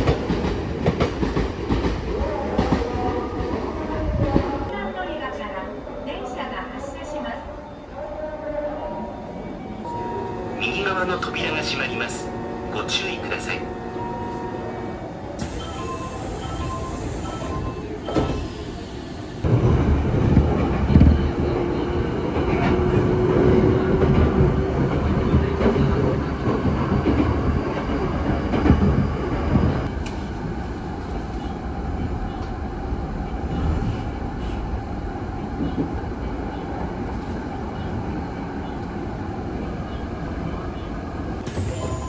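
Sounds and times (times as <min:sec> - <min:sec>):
electric train running on rails: 0:00.0 - 0:06.9, 0:09.9 - 0:42.0.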